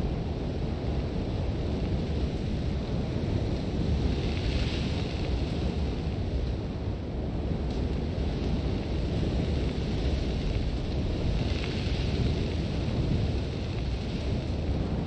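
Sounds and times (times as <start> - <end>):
wind blowing with deep rumble: 0.0 - 15.0.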